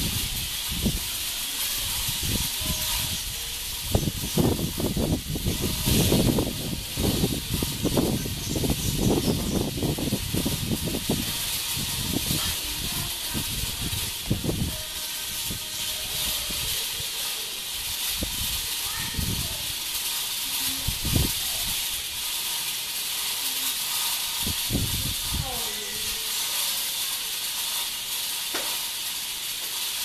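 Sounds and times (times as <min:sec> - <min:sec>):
cicada buzzing: 0:00.0 - 0:30.0.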